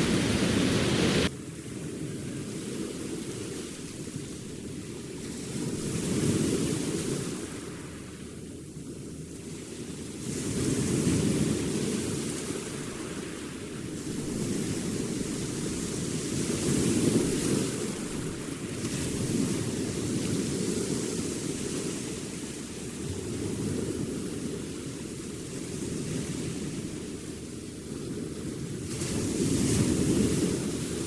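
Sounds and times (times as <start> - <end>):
waves breaking on a beach: 0.0 - 31.0.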